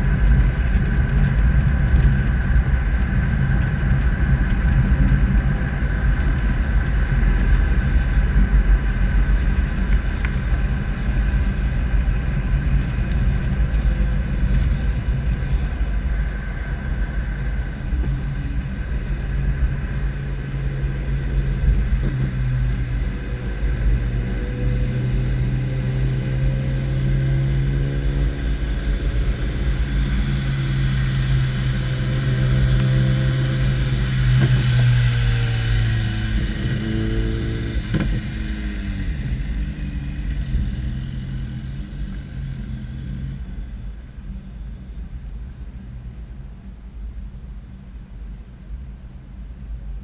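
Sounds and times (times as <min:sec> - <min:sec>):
low engine hum: 0:00.0 - 0:50.0
road and wind rumble: 0:00.0 - 0:50.0.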